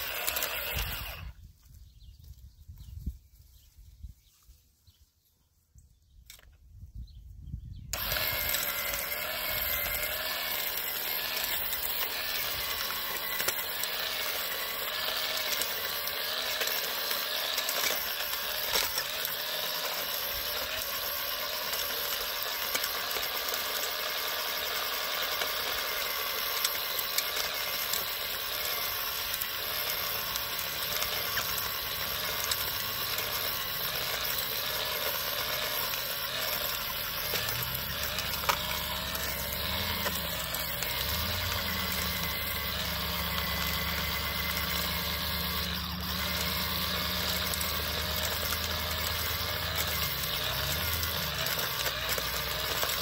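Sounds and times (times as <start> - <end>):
electric tiller motor whine: 0.0 - 2.4, 7.9 - 53.0
tines churning soil: 0.0 - 2.4, 7.9 - 53.0.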